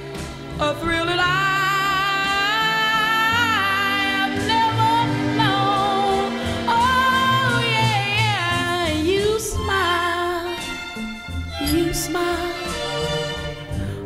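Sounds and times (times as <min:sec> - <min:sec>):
low musical accompaniment: 0:00.0 - 0:14.0
person singing with vibrato: 0:00.6 - 0:10.8, 0:11.6 - 0:14.0.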